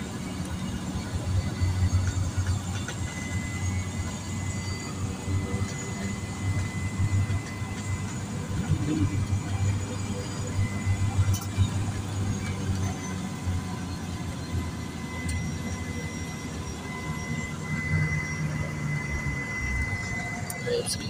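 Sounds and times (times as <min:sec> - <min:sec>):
faint high whine: 0:00.0 - 0:21.0
propeller airplane engine drone: 0:00.0 - 0:21.0.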